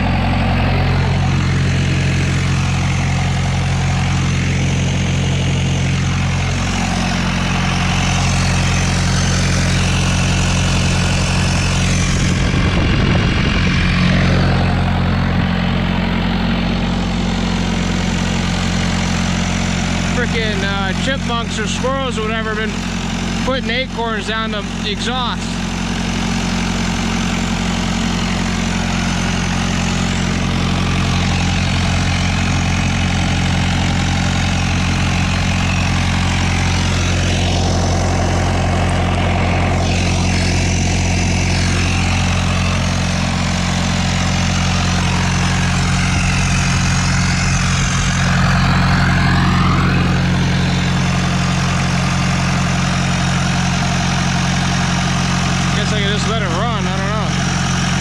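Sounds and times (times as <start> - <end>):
large engine idling: 0.0 - 58.0.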